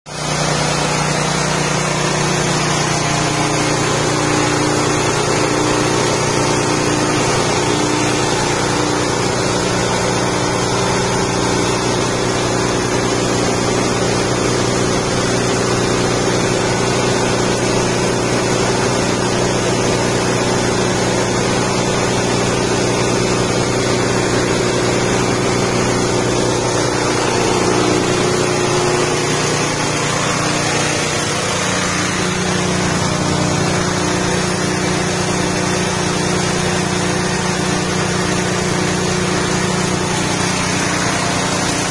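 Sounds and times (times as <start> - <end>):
grinding machine engine running: 0.1 - 41.9.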